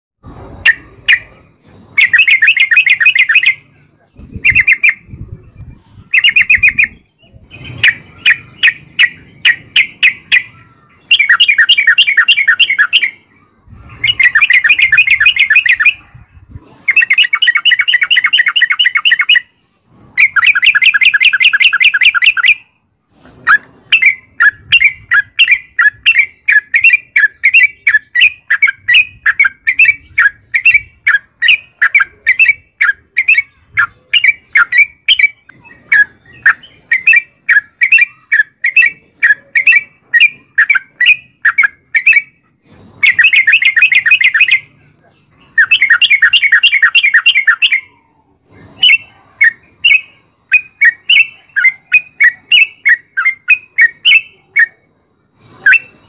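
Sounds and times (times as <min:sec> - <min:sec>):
bulbul chattering song: 0:00.2 - 0:56.0.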